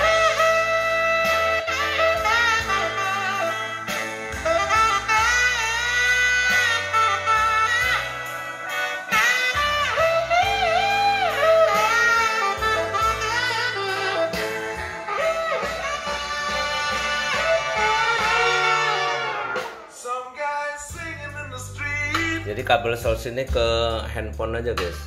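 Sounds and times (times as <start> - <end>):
blues music through speaker: 0.0 - 25.0.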